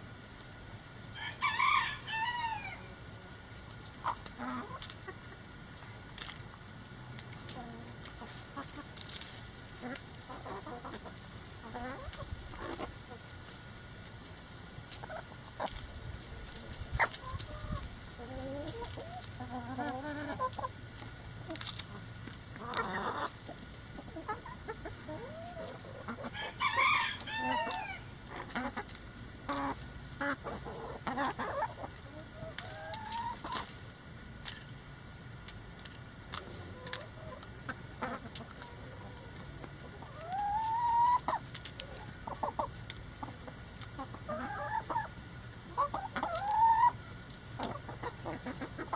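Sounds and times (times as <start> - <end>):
hens and roosters clucking: 0.0 - 48.9.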